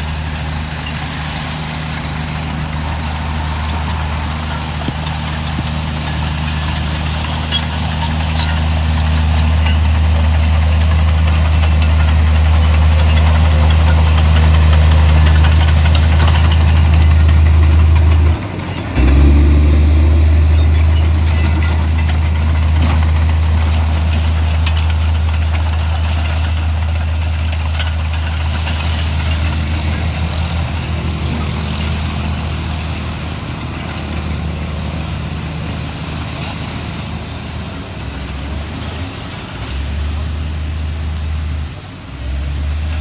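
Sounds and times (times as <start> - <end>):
heavy diesel engine humming: 0.0 - 43.0.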